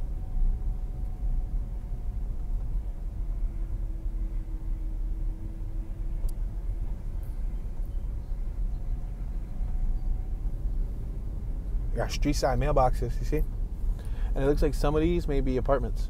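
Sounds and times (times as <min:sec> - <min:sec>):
car road and engine noise: 0:00.0 - 0:16.0
faint hum: 0:00.0 - 0:16.0.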